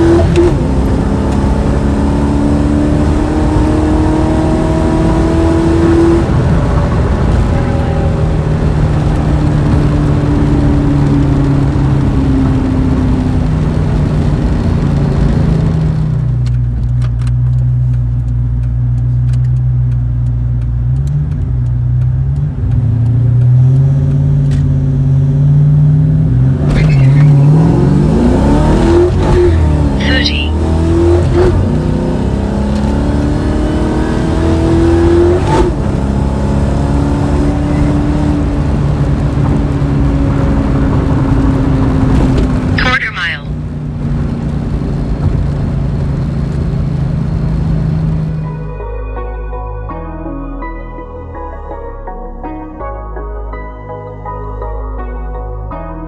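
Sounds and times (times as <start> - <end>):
car engine revving through gears: 0.0 - 48.6.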